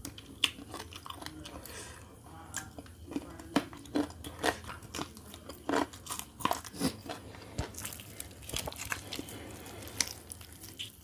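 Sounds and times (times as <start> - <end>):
crunchy biting and chewing: 0.0 - 1.7, 2.6 - 11.0.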